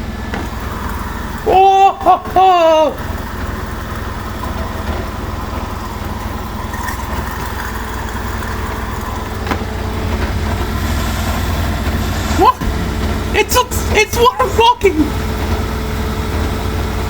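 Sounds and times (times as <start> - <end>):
washing machine drum rumbling: 0.0 - 17.0.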